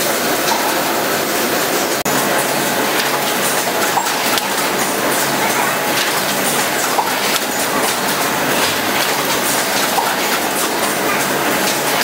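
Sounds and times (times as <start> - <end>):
constant machine noise: 0.0 - 12.0
machine clattering: 1.8 - 12.0.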